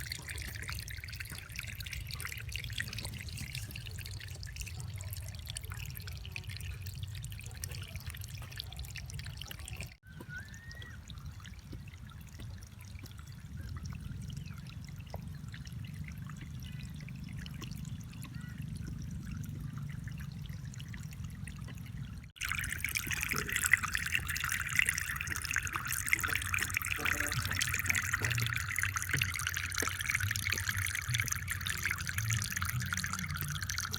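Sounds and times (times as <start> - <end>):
water trickling in small waterfall: 0.0 - 33.9.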